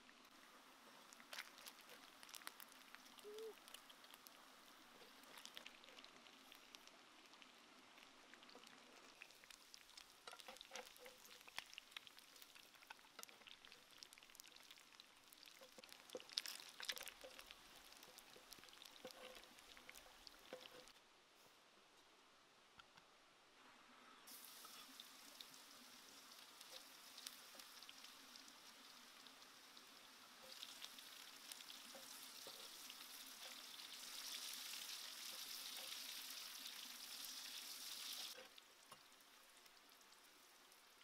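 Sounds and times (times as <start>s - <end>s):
fried chicken crackling: 0.0s - 21.0s, 24.3s - 38.6s.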